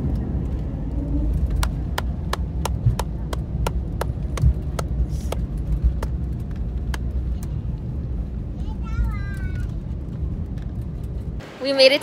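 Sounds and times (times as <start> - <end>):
airplane cabin rumble: 0.0 - 11.9.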